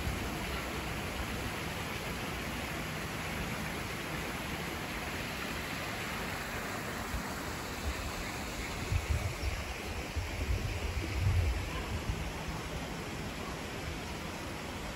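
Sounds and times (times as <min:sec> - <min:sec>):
steady background hiss: 0:00.0 - 0:14.9.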